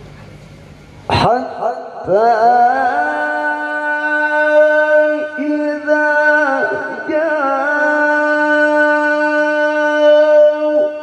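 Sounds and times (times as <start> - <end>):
man reciting long hoarse note: 1.1 - 11.0.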